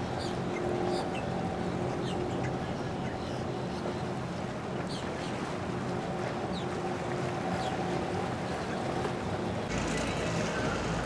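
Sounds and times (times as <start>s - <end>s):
motorboat engine humming: 0.0s - 11.0s
water noise: 0.0s - 11.0s.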